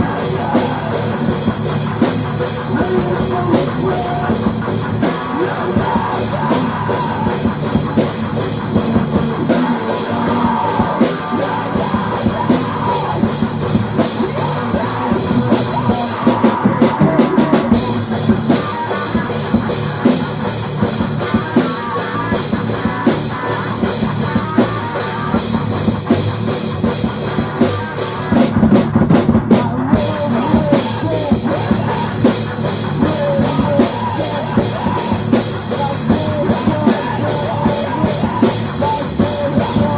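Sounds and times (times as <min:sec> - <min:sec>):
loud drum kit: 0:00.0 - 0:39.9
rock music: 0:00.0 - 0:39.9.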